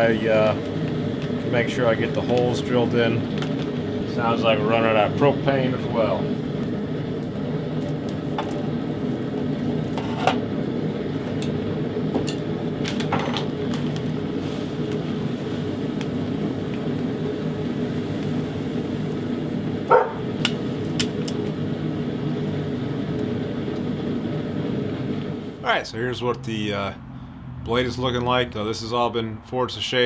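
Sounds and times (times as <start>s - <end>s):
forge burner roaring: 0.0s - 30.0s.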